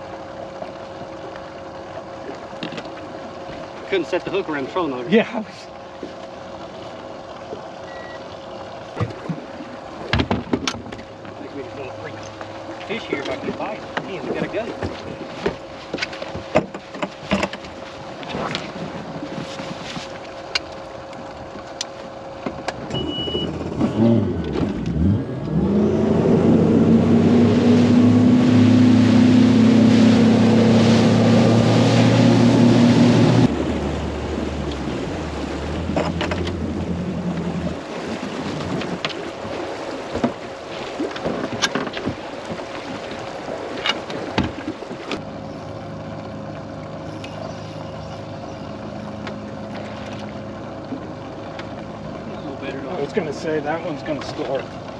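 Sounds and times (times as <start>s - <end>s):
outboard motor running hard: 0.0s - 54.9s
wind and water rushing: 0.0s - 54.9s.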